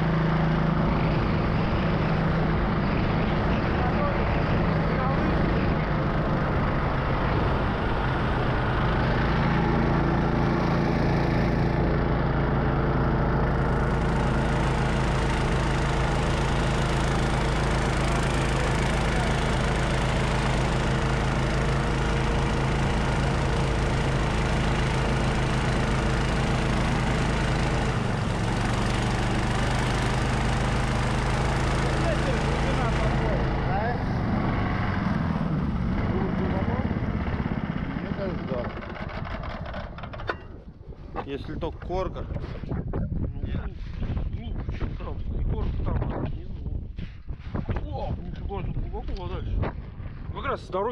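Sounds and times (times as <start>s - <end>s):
snowmobile engine running: 0.0s - 42.6s.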